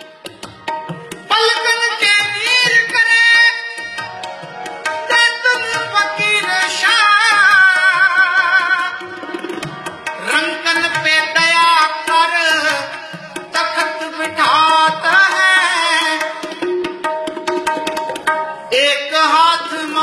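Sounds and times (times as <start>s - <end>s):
harmonium: 0.0s - 20.0s
tabla: 0.0s - 20.0s
man singing devotional melody: 1.2s - 17.2s, 18.3s - 20.0s.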